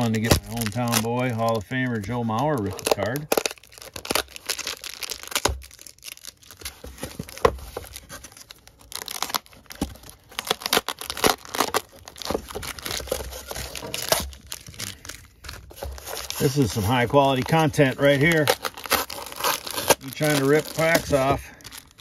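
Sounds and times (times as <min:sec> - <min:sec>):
foil wrappers crinkling: 0:00.0 - 0:22.0.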